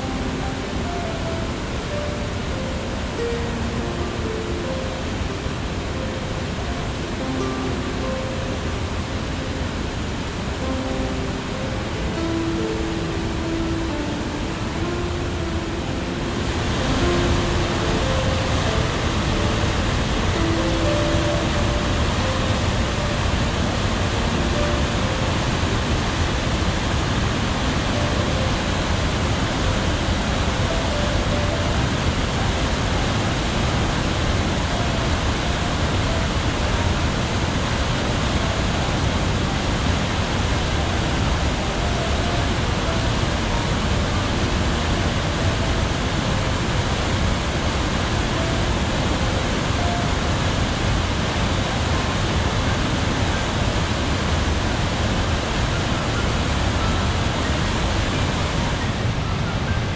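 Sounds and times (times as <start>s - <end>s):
water rushing over rocks: 0.0s - 59.7s.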